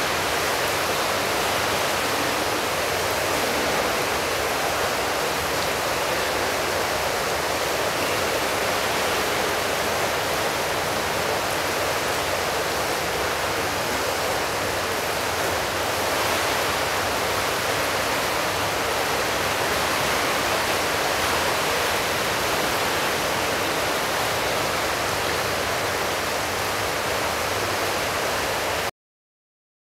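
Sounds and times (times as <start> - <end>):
swimming pool hall rushing noise: 0.0 - 28.9.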